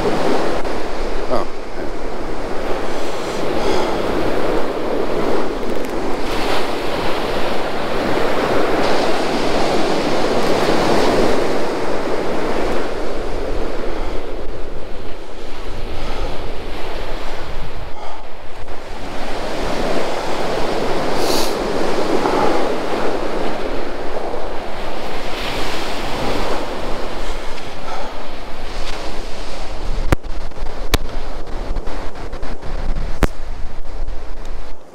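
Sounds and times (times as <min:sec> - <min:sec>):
surf breaking on sandy beach: 0:00.0 - 0:34.9
wind buffeting microphone: 0:00.0 - 0:34.9.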